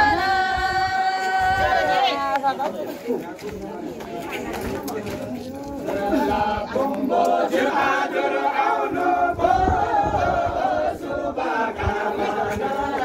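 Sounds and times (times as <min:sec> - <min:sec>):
group singing unaccompanied: 0:00.0 - 0:02.6, 0:05.0 - 0:13.0.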